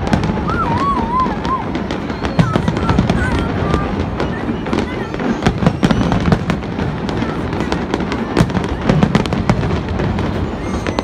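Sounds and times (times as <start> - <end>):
fireworks cracks and bangs: 0.0 - 11.0.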